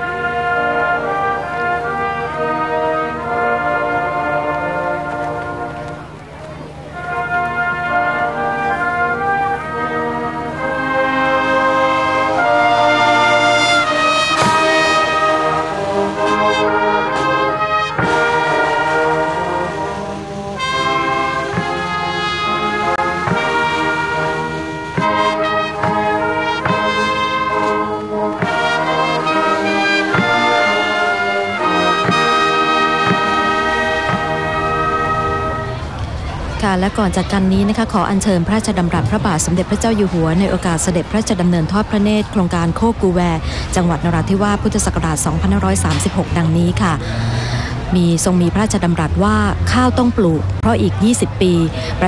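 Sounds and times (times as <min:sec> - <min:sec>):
brass band chords: 0:00.0 - 0:36.2, 0:36.8 - 0:52.0.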